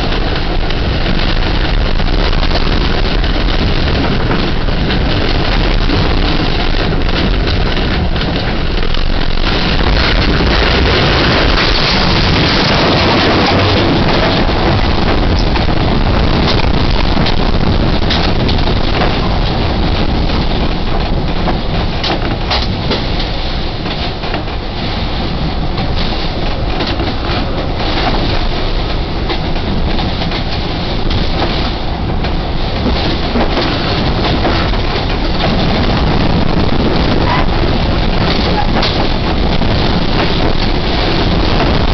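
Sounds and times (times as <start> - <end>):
strong wind against a hull: 0.0 - 41.9.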